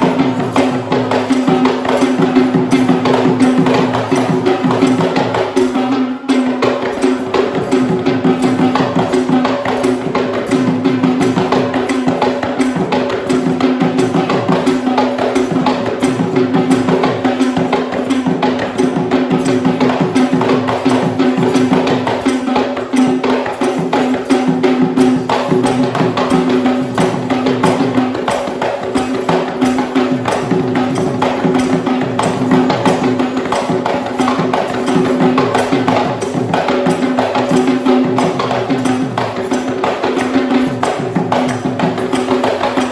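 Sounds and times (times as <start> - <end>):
jingling percussion: 0.0 - 42.9.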